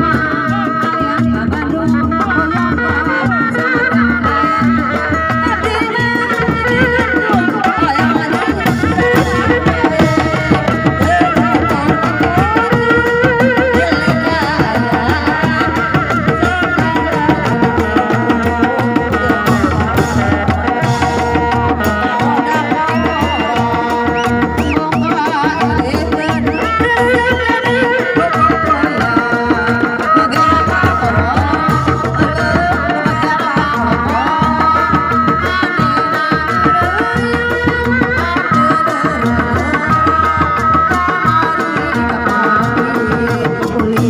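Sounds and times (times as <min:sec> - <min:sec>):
hand drums beating: 0:00.0 - 0:44.0.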